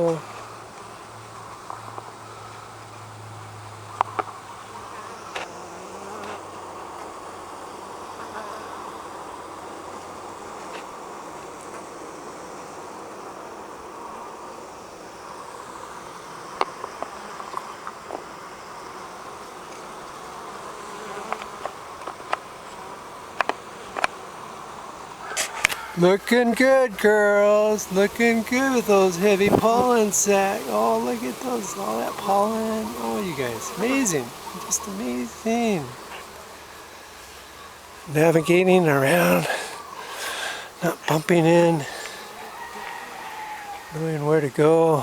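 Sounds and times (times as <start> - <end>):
honeybees buzzing: 0.0 - 45.0.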